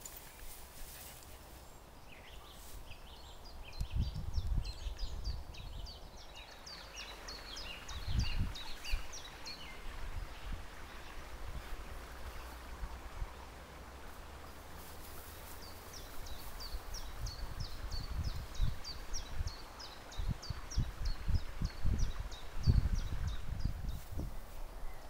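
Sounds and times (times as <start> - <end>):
songbird chirping: 0.0 - 25.0.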